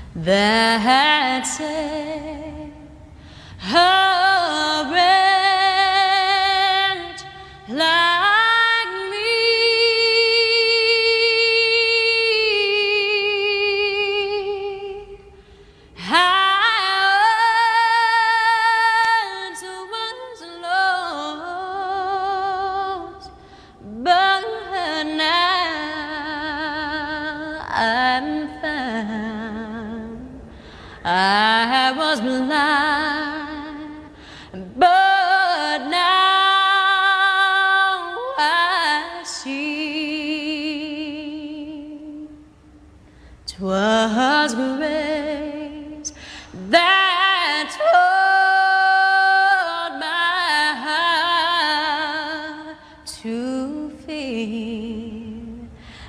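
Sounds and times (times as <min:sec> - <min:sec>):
woman singing with vibrato: 0:00.0 - 0:56.0.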